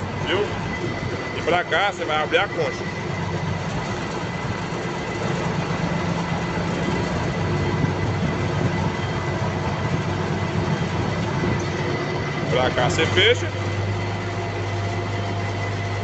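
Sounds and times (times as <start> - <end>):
diesel engine running: 0.0 - 16.0
thin high hydraulic whine: 0.0 - 16.0.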